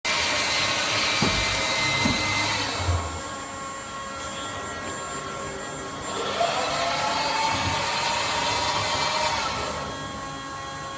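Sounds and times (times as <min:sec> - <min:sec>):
cnc machine running: 0:00.1 - 0:10.9
motor whine rising: 0:00.1 - 0:10.9.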